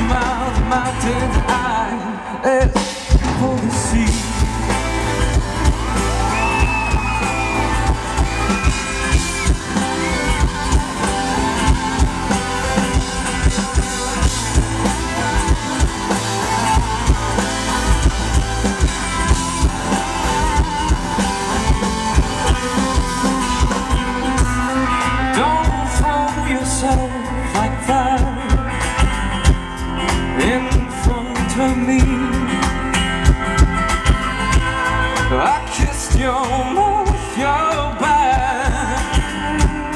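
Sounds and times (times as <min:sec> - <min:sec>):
drum kit: 0:00.0 - 0:39.9.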